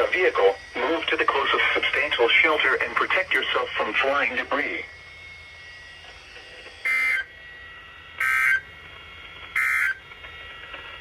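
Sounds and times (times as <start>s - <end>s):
buzzing digital data tones: 0.0s - 10.1s.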